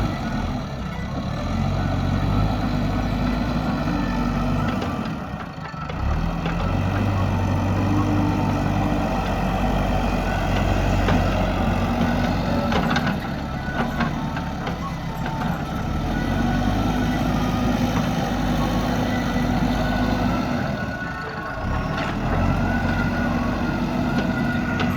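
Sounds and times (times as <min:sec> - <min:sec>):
diesel digger engine running: 0:00.0 - 0:24.9.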